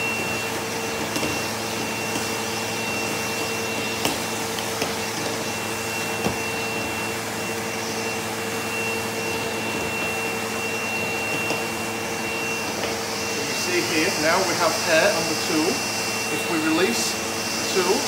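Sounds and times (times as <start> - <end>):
vacuum cleaner whining: 0.0 - 18.0.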